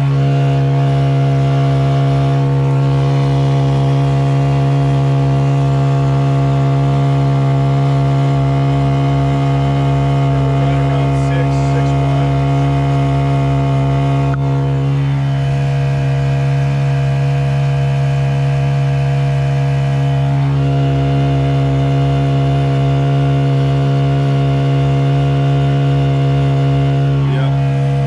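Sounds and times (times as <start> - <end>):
outboard engine running: 0.0 - 28.0.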